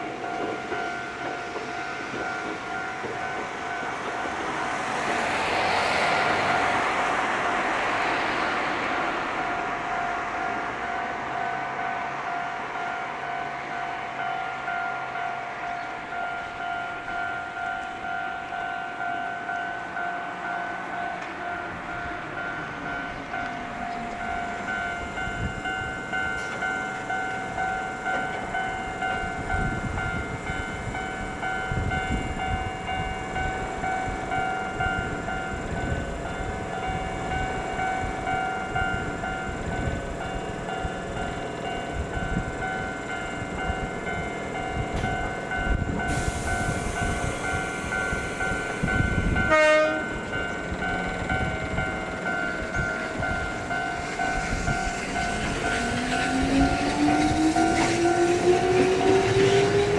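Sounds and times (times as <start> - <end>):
electric train rumble: 0.0 - 59.9
level crossing alarm ringing: 9.3 - 59.9.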